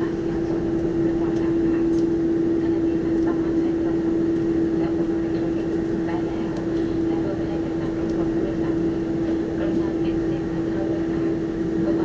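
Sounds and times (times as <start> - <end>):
airplane cabin engine drone: 0.0 - 12.0
constant humming tone: 0.0 - 12.0.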